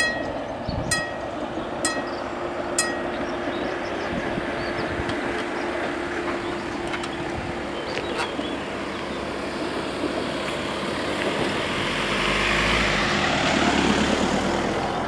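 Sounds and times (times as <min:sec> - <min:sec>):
car passing slowly: 0:00.0 - 0:15.0
low rumble crossing rails: 0:00.0 - 0:15.0.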